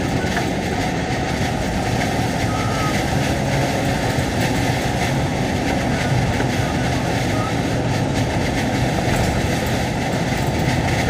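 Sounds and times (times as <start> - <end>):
truck road and engine noise: 0.0 - 11.0.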